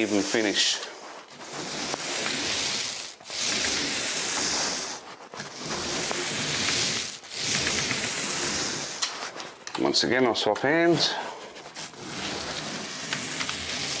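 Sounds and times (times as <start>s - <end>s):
paint roller on wet wall: 0.0s - 14.0s.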